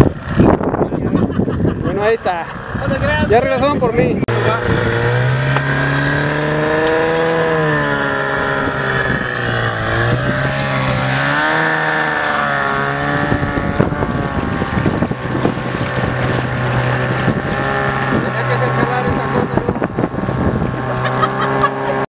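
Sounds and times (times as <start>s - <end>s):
wind buffeting microphone: 0.0s - 21.8s
outboard motor running: 0.0s - 22.0s.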